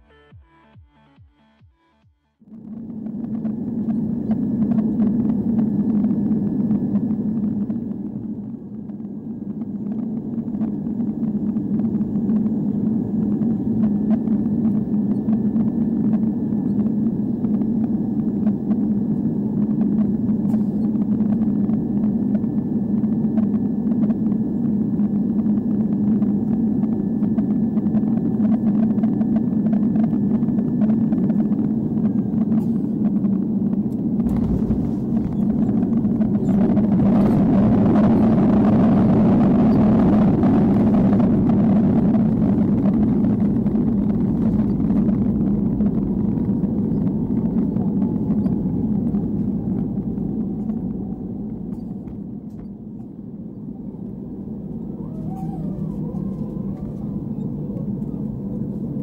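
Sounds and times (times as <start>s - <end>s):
airplane cabin engine rumble: 2.4s - 59.0s
faint steady whine: 2.4s - 59.0s.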